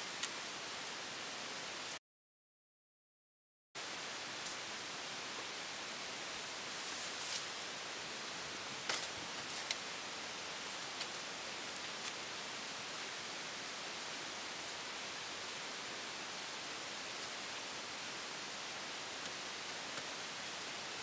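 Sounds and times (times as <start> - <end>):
recording hiss: 0.0 - 2.0, 3.8 - 21.0.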